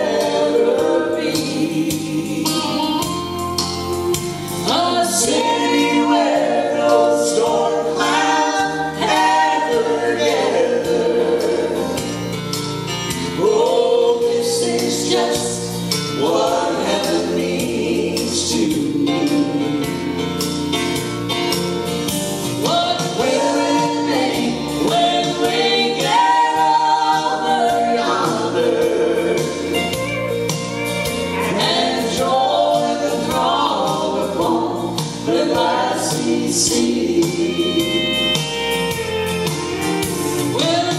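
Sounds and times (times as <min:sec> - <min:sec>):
women singing gospel in harmony: 0:00.0 - 0:20.4, 0:22.4 - 0:38.7, 0:40.4 - 0:40.9.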